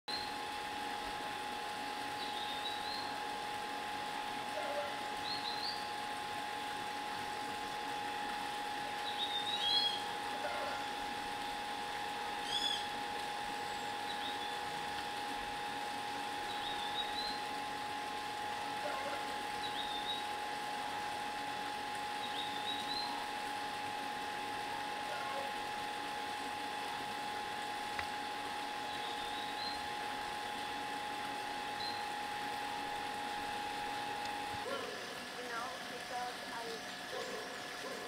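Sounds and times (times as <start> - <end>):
running stream water: 0.1 - 38.0.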